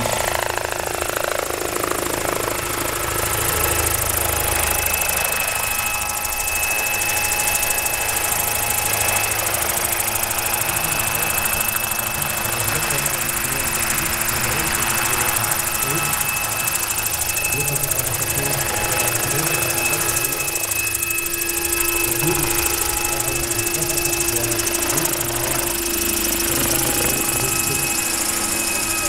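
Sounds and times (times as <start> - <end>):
helicopter rotor whir: 0.0 - 29.0
high electric drive whine: 0.0 - 29.0.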